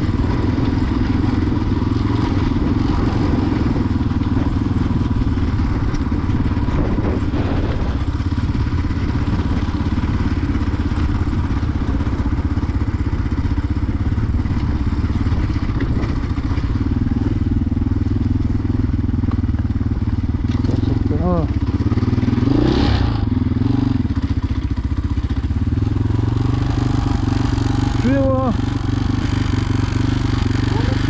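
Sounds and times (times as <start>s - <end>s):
road and wind hiss: 0.0s - 30.7s
motorcycle engine running: 0.0s - 31.0s.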